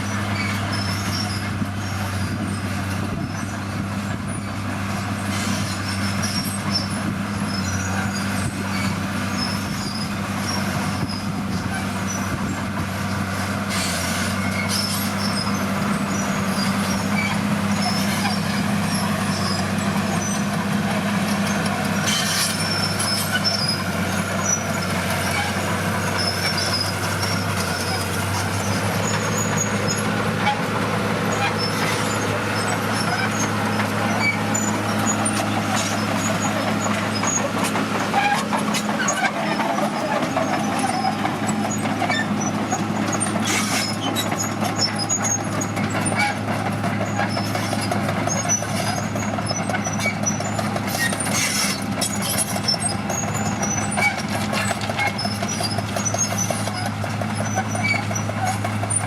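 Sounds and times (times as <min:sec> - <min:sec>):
diesel machinery engine drone: 0:00.0 - 0:59.0.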